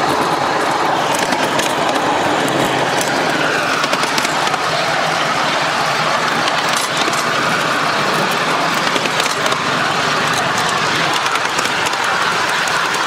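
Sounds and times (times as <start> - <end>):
steam locomotive running: 0.0 - 13.0.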